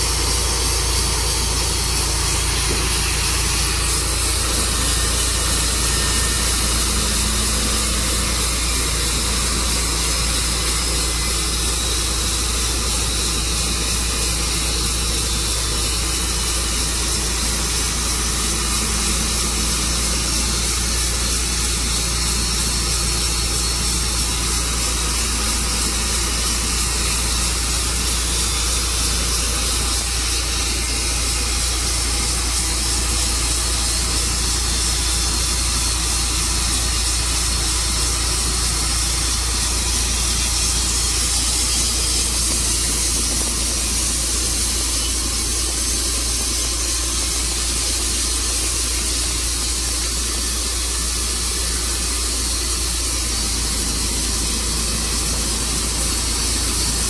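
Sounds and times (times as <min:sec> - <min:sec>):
sawmill cutting log: 0:00.0 - 0:57.0.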